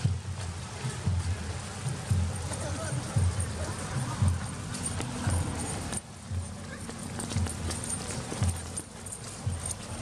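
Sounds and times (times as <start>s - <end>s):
footsteps on dirt path: 0.0s - 10.0s.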